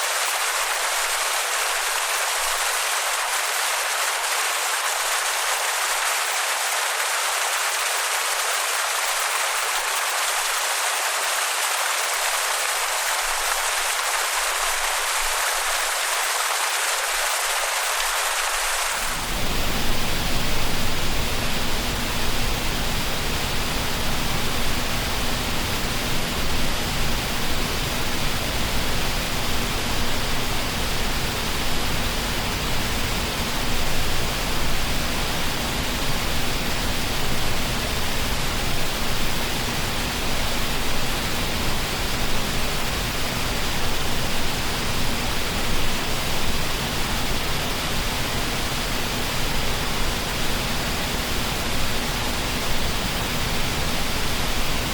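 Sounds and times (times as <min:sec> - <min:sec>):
waterfall pouring and splashing: 0:00.0 - 0:54.9.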